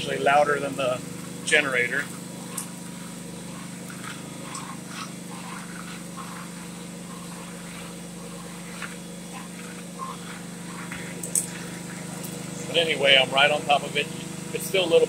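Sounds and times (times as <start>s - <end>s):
generator running: 0.0s - 15.0s
shop vacuum running: 0.0s - 15.0s.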